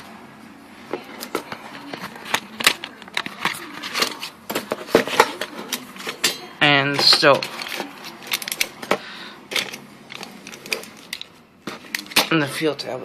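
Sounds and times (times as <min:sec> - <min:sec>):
plastic wrappers crinkling: 0:01.0 - 0:12.6.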